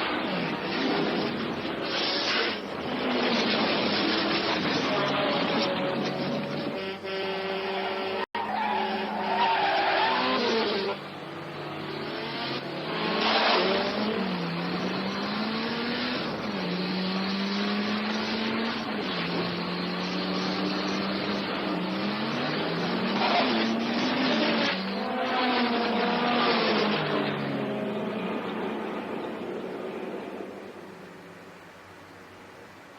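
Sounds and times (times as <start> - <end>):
car engines revving: 0.0 - 32.8.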